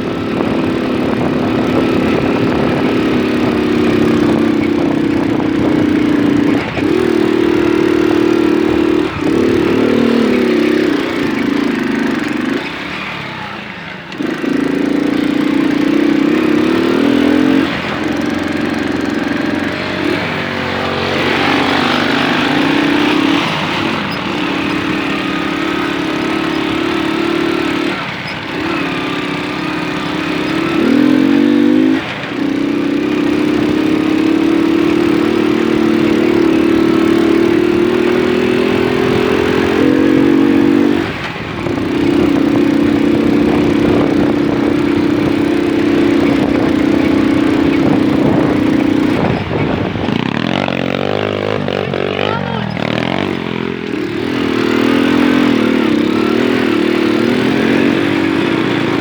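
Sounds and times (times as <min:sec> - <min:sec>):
moped engine revving: 0:00.0 - 0:59.0.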